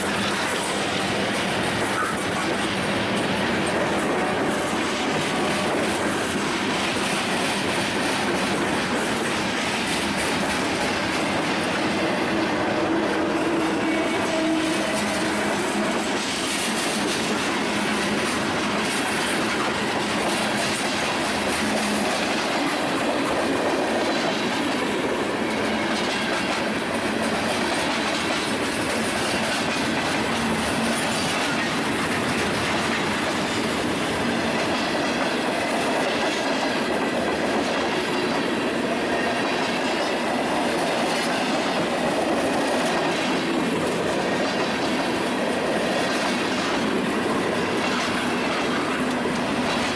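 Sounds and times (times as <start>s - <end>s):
train wheels clattering over rails: 0.0s - 49.9s.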